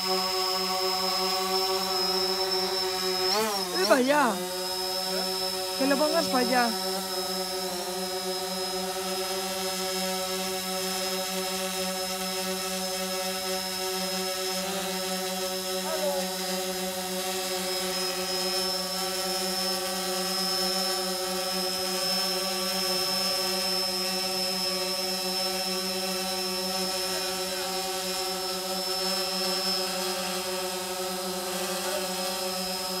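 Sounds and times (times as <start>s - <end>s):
quadcopter hovering hum: 0.0s - 33.0s.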